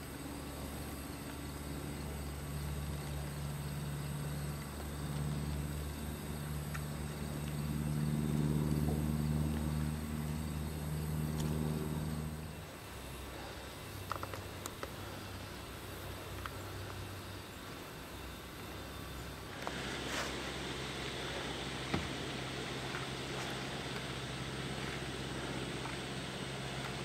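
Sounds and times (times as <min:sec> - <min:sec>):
distant engine drone: 0:00.0 - 0:27.0.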